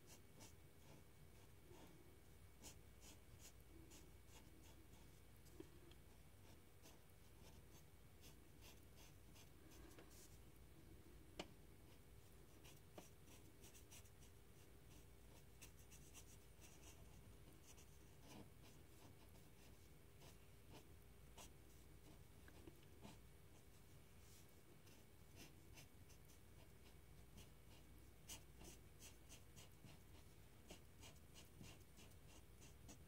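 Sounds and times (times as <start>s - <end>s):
pen scratching on paper: 0.1s - 2.0s, 2.6s - 5.2s, 6.4s - 10.4s, 11.9s - 22.2s, 23.0s - 23.7s, 24.8s - 33.0s.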